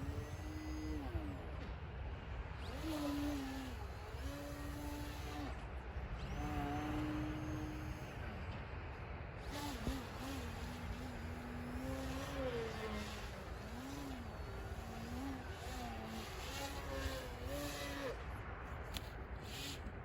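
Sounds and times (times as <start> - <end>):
rc plane motor and propeller: 0.0 - 20.0.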